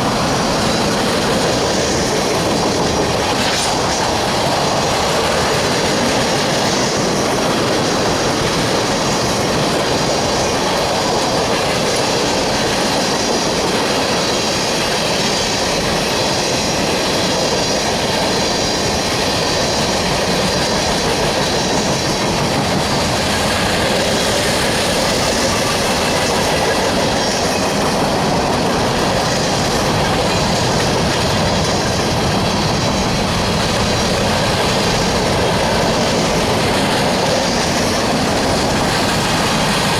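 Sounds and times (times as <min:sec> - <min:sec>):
train cars rumbling past: 0:00.0 - 0:39.9
wheels clacking over rail joints: 0:00.0 - 0:39.9.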